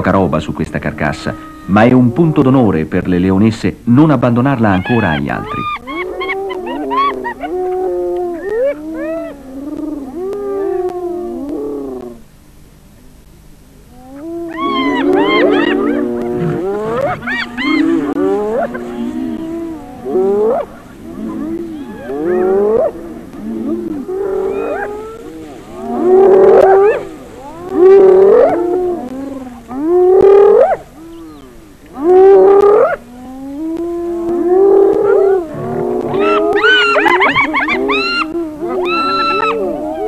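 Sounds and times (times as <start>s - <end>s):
hyenas crying out: 1.0s - 2.8s, 4.4s - 12.2s, 13.9s - 40.0s.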